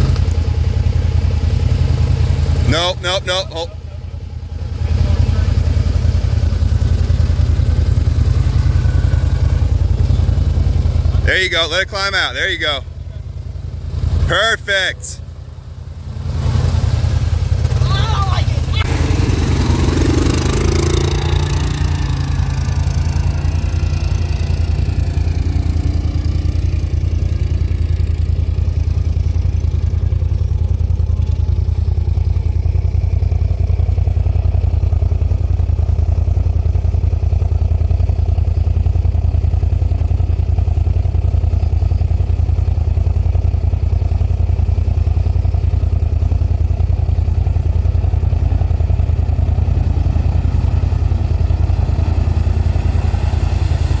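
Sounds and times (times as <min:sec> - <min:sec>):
quad engine pulling away: 0:00.0 - 0:14.4, 0:15.8 - 0:54.0
off-road vehicle engine idling: 0:00.0 - 0:54.0.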